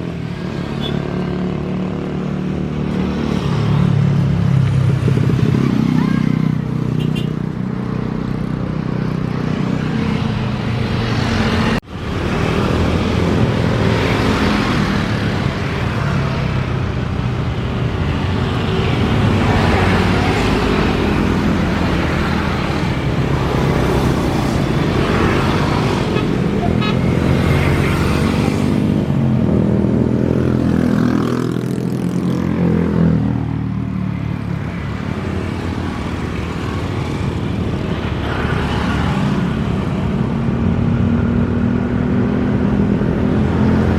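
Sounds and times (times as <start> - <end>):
cars passing: 0.0 - 43.9
motorcycles passing: 0.0 - 43.9.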